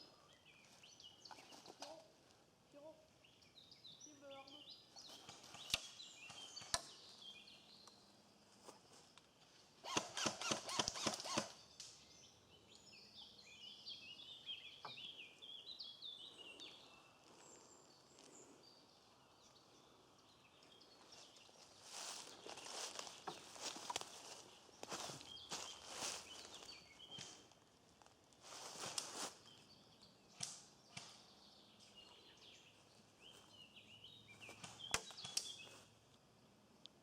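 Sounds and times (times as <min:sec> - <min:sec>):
songbirds chirping and singing: 0:00.0 - 0:08.2, 0:11.2 - 0:27.6, 0:28.5 - 0:36.0.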